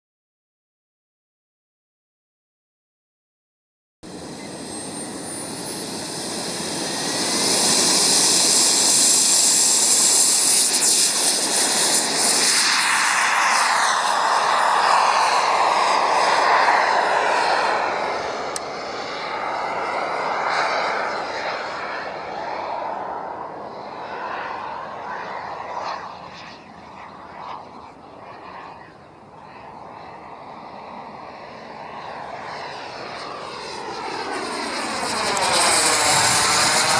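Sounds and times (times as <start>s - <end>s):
model jet rushing whine: 4.0s - 36.9s.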